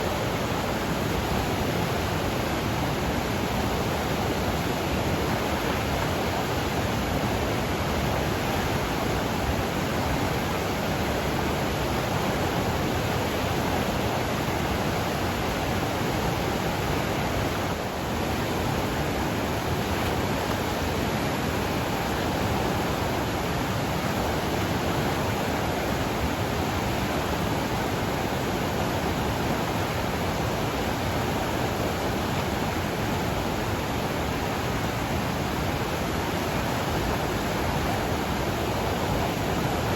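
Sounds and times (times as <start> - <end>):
river water roaring: 0.0 - 39.9.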